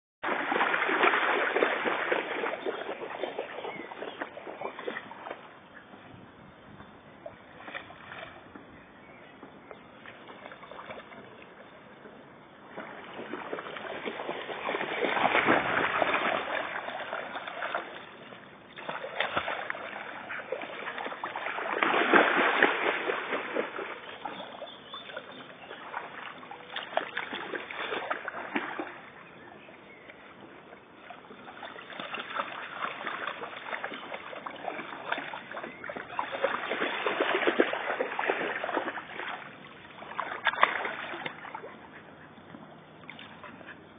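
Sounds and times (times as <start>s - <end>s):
dog splashing through water: 0.2s - 5.8s, 10.0s - 11.6s, 12.6s - 30.0s, 31.0s - 42.2s.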